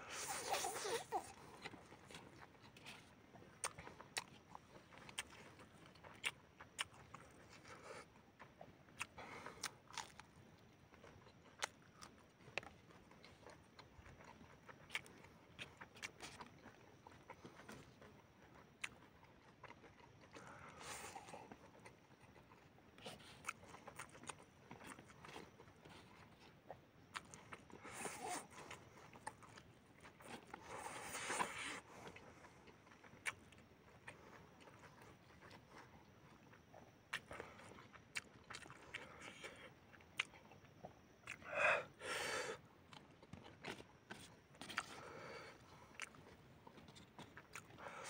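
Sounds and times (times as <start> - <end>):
man chewing crunchy food: 0.0 - 48.0.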